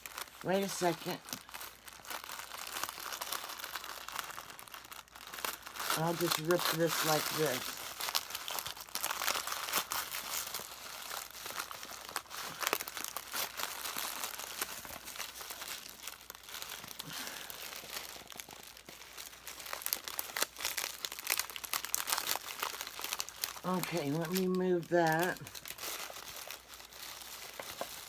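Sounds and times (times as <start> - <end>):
package wrapping crinkling and tearing: 0.0 - 28.0.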